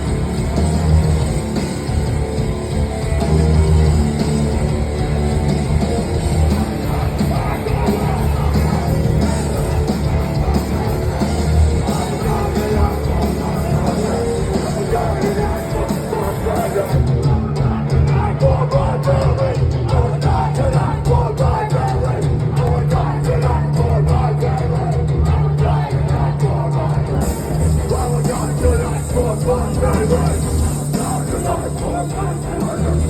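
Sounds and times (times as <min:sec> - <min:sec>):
bass: 0:00.0 - 0:33.0
distorted guitars: 0:00.0 - 0:33.0
pounding drums: 0:00.0 - 0:33.0
shouted vocals: 0:06.2 - 0:33.0.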